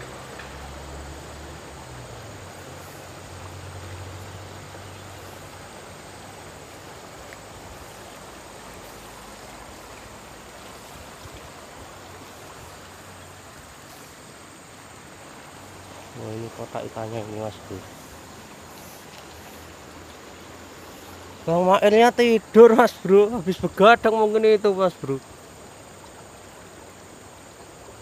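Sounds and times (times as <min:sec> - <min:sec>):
fast-flowing river rushing: 0:00.0 - 0:28.0.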